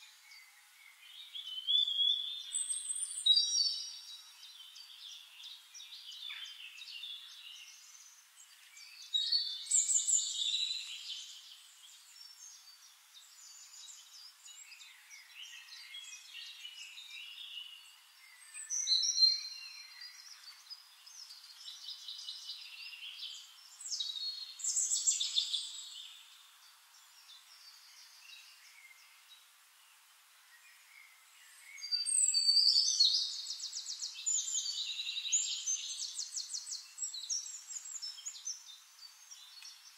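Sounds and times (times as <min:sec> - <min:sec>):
bird song phrases: 0:00.0 - 0:39.9.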